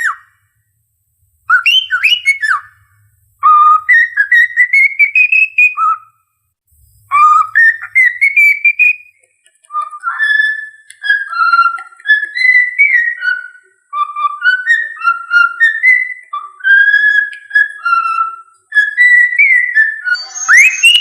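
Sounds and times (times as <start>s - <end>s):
cockatiel whistling a tune: 1.4s - 6.1s, 6.8s - 21.0s.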